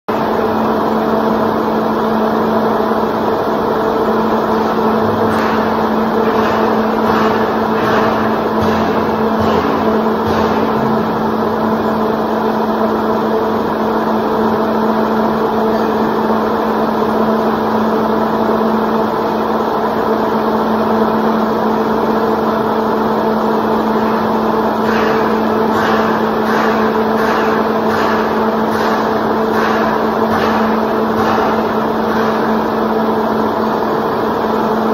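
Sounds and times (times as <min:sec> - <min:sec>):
machine running steadily: 0:00.1 - 0:34.9.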